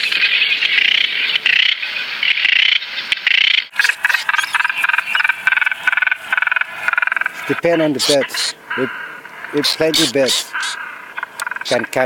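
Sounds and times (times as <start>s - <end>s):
bird rattling croaks: 0.6s - 12.0s.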